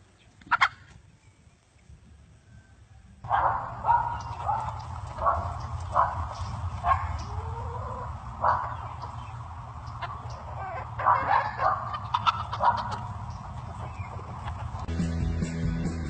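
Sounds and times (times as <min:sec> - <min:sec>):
steady low hum: 0:02.9 - 0:15.9.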